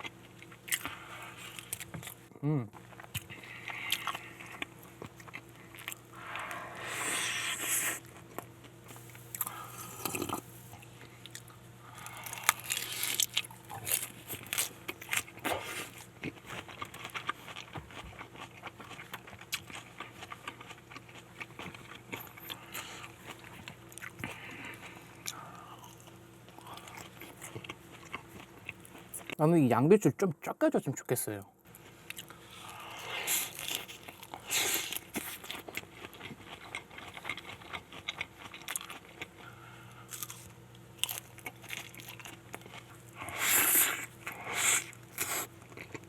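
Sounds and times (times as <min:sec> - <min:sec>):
crunchy eating and chewing: 0:00.0 - 0:29.5, 0:31.7 - 0:46.0
faint steady hum: 0:00.0 - 0:46.0.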